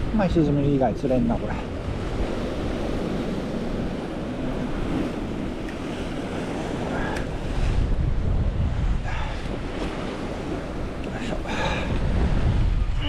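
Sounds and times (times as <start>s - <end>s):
sea surf washing against rocks: 0.0s - 13.0s
wind buffeting microphone: 0.0s - 13.0s.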